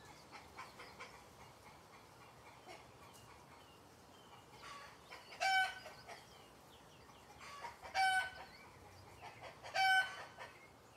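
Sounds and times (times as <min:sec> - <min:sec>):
bird calls: 0:00.0 - 0:10.9.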